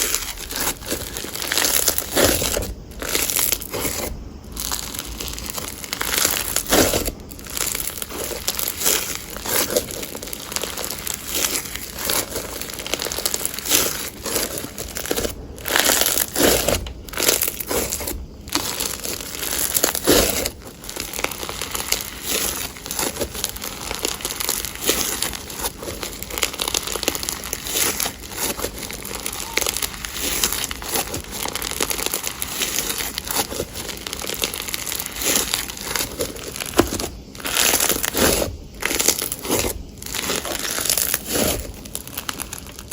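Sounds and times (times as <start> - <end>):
slime squished by hand: 0.0 - 42.9.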